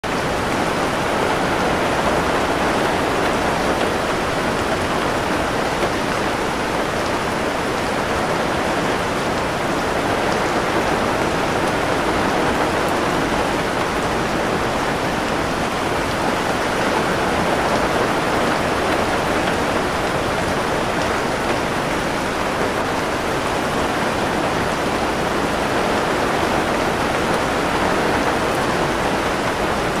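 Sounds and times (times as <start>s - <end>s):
heavy rain on foliage: 0.0s - 30.0s.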